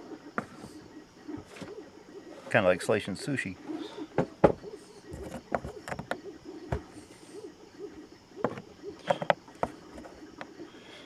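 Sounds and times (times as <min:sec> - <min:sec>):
faint low wavering whir: 0:00.0 - 0:11.0.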